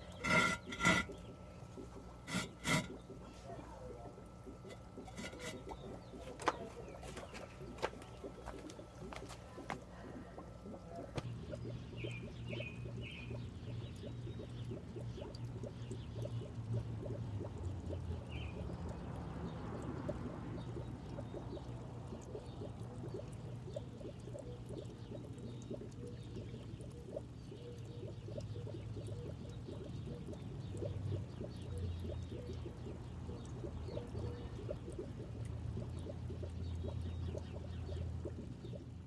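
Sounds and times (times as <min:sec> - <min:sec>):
low steady hum: 0:00.0 - 0:39.0
water pouring and trickling: 0:00.0 - 0:39.0.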